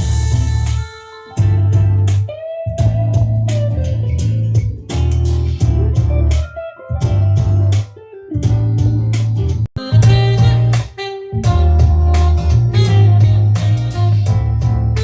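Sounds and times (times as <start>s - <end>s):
electric guitar music with beat: 0.0s - 15.0s.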